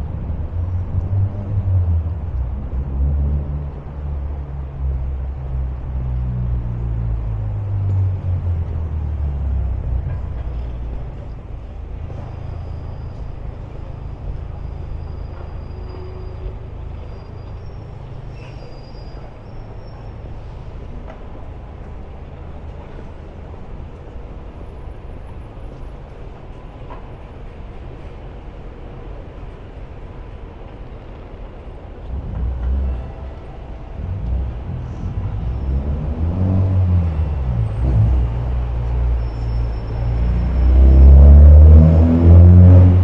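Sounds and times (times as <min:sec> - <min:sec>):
traffic hum: 0:00.0 - 0:43.0
vehicle engine rumble: 0:00.0 - 0:43.0.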